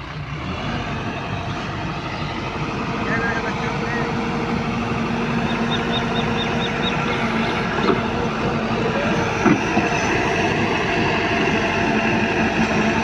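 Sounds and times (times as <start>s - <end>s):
diesel machinery humming: 0.0s - 13.0s.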